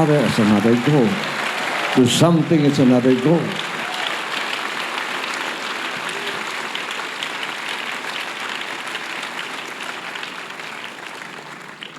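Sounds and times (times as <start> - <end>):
crowd clapping: 0.0 - 11.9.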